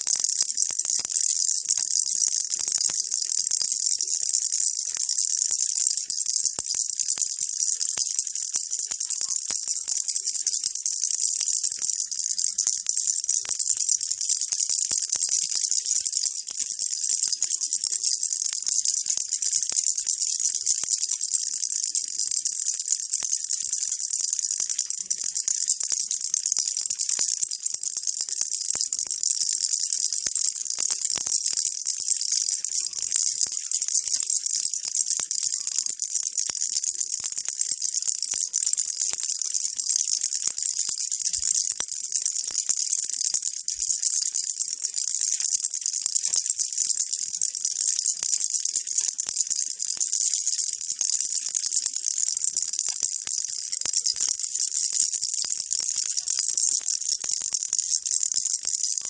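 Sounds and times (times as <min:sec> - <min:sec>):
baby rattle shaken: 0:00.0 - 0:59.0.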